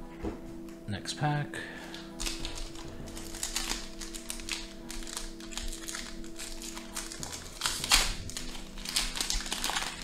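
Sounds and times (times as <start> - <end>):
background music: 0.0 - 10.0
foil wrapper crinkling: 1.9 - 10.0
foil wrapper ripping: 1.9 - 10.0.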